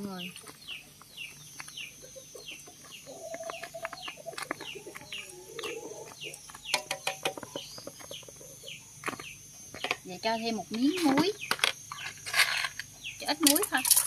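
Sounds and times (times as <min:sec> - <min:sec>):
chickens clucking: 0:00.1 - 0:12.2.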